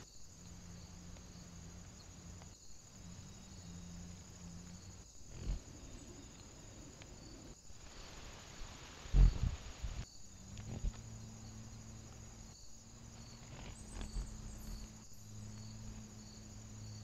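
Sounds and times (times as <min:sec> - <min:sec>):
faint microphone hiss: 0:00.0 - 0:17.0.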